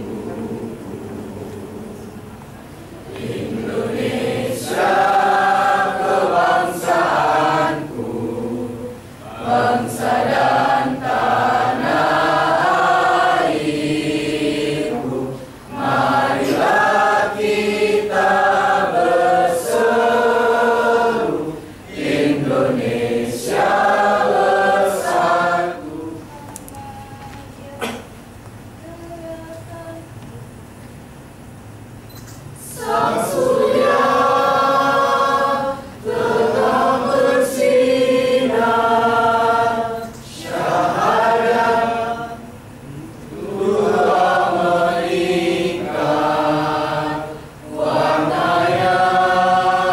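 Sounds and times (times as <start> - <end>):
mixed choir singing: 0.0 - 2.1, 3.0 - 27.2, 32.6 - 49.9.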